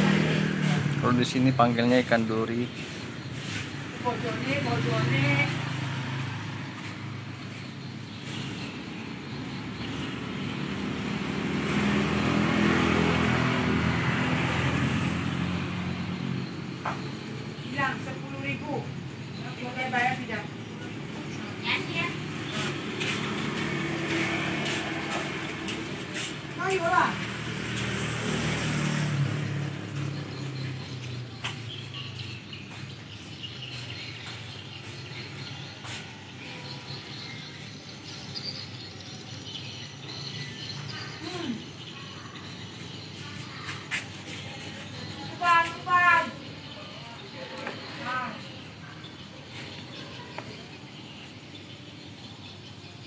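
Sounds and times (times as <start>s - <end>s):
small birds chirping: 0.1s - 53.0s.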